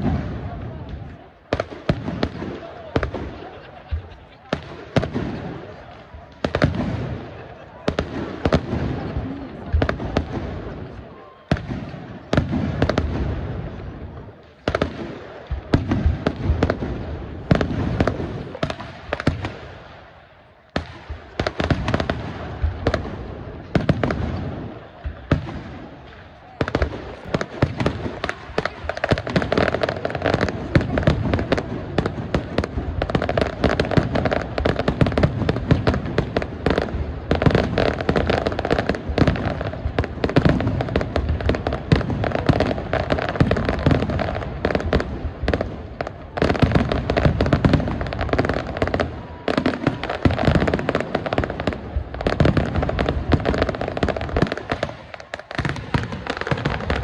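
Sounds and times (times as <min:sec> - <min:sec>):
fireworks bursts and crackling: 0:00.0 - 0:57.0.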